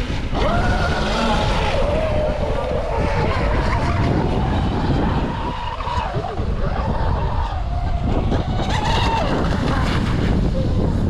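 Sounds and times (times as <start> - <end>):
boat motor whining: 0.0 - 10.5
wind on microphone: 0.0 - 11.0.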